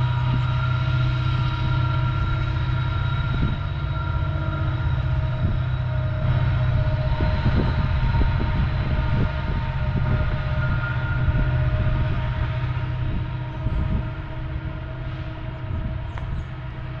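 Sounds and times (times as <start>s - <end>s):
diesel locomotives rumbling under load: 0.0s - 17.0s.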